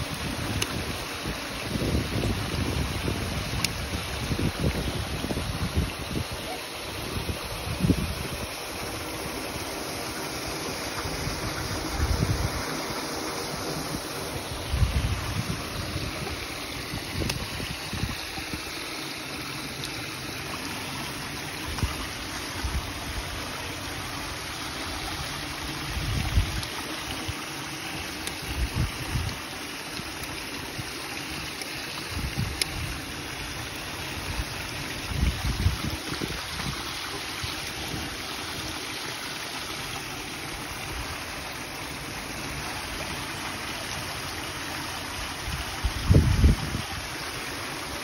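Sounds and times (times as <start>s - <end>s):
water cascade splashing on paving: 0.0s - 48.0s.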